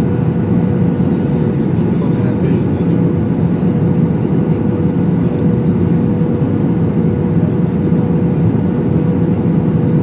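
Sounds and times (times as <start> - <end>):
aircraft cabin engine rush: 0.0 - 10.0
constant low hum: 0.0 - 10.0.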